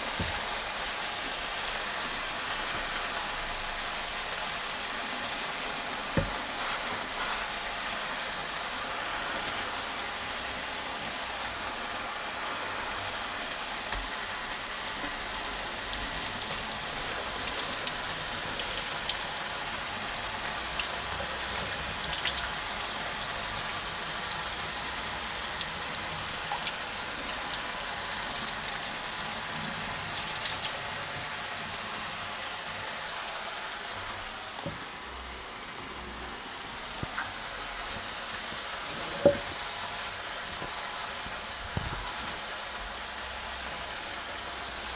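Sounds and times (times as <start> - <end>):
food sizzling in frying pan: 0.0 - 44.9.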